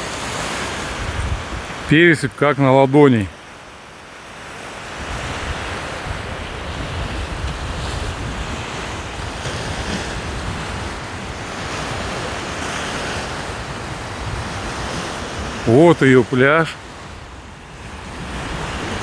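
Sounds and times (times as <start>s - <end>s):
wind buffeting microphone: 0.0s - 2.0s, 4.4s - 15.7s, 16.8s - 19.0s
surf washing on shore: 0.0s - 19.0s.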